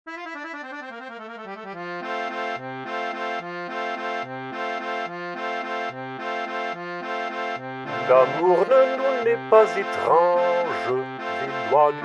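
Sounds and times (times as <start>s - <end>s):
accordion playing: 0.1s - 12.0s.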